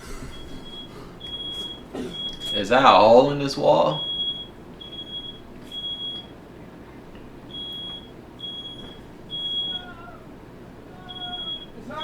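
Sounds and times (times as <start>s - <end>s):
smoke alarm beeping: 0.0s - 12.0s.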